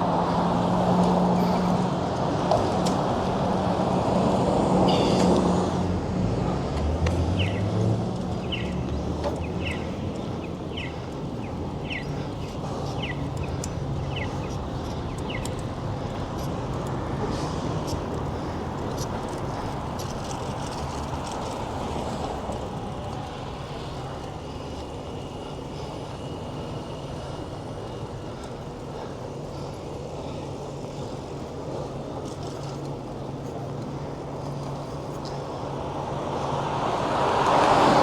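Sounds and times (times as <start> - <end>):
city traffic rushing: 0.0 - 38.0.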